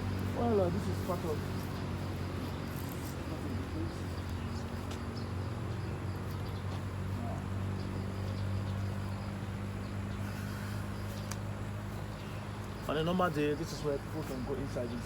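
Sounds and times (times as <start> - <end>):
insect chirps and ticks: 0.0 - 15.0
steady low hum: 0.0 - 15.0.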